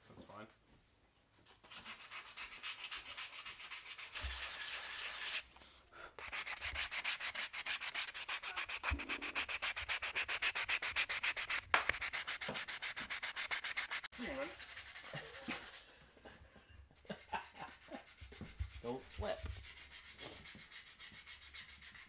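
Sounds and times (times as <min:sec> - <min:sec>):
sandpaper rubbing on wood: 0:01.6 - 0:05.4, 0:06.2 - 0:15.9, 0:17.1 - 0:22.0.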